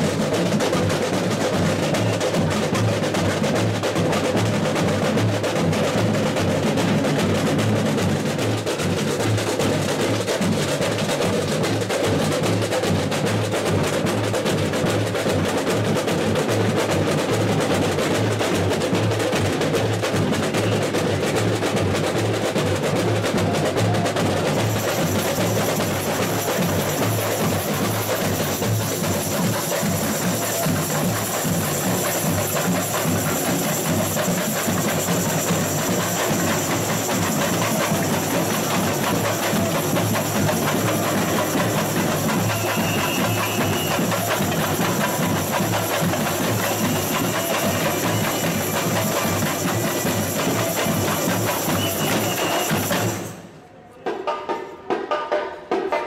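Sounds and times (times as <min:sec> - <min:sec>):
snare drums: 0:00.0 - 0:56.0.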